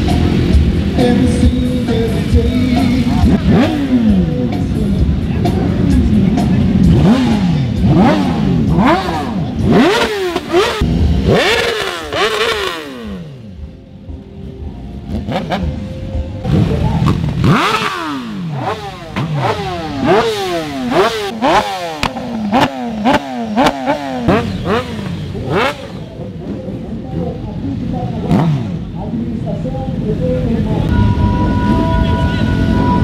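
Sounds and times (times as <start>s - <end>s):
motorcycle engine revving: 0.0s - 14.2s, 14.8s - 33.0s.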